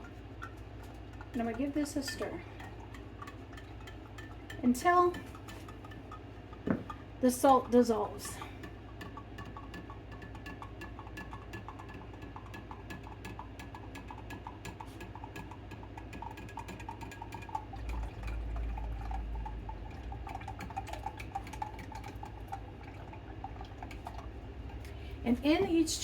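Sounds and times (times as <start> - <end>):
liquid swirling: 0.0 - 26.0.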